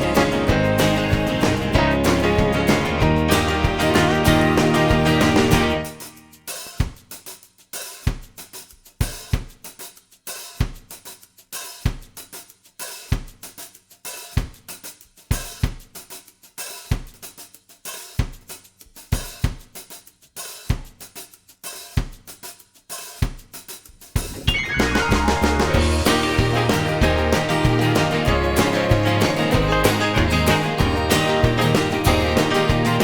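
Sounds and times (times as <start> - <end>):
drum kit playing steady beat: 0.0 - 33.0.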